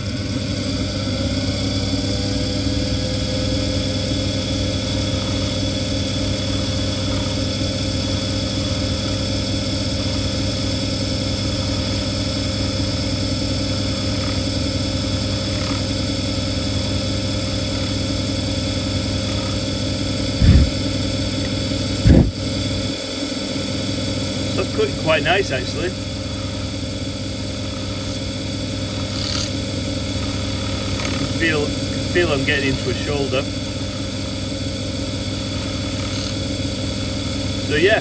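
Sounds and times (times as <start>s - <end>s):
graver cutting spinning metal: 0.0s - 38.0s
lathe running: 0.0s - 38.0s.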